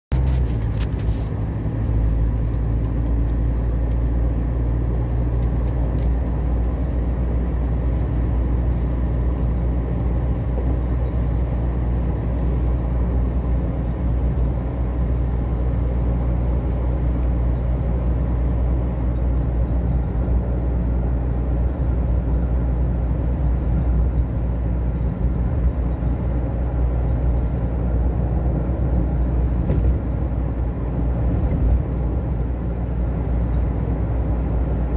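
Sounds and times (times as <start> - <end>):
car engine rumble: 0.1 - 34.9
tyre noise on road: 0.1 - 34.9.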